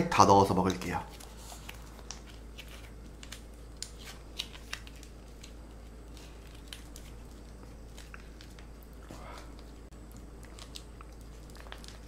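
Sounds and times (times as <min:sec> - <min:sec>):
plastic packets crinkling: 0:00.8 - 0:12.0.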